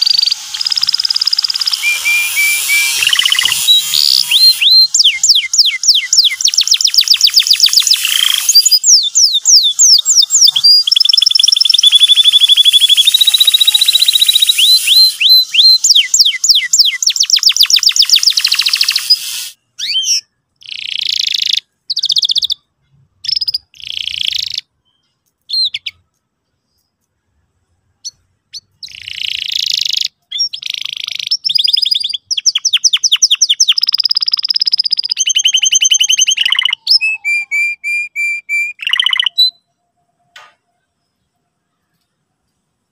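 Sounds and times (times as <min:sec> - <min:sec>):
canary singing with chirps and trills: 0:00.0 - 0:27.0, 0:27.9 - 0:42.0.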